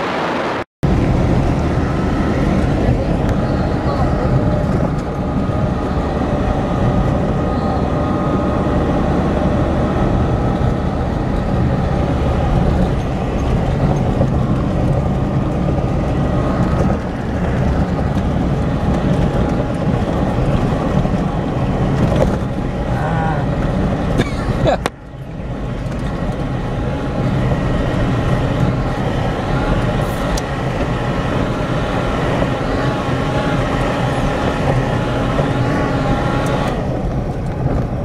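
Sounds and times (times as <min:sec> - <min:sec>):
car engine drone: 0:00.0 - 0:38.0
tyre and road rumble: 0:00.0 - 0:38.0.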